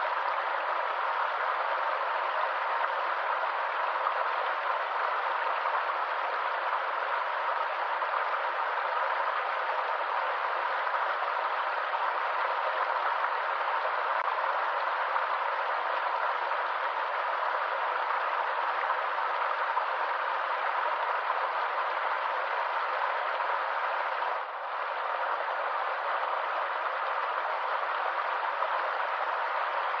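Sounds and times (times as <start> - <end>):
stream water rushing over rocks: 0.0 - 30.0.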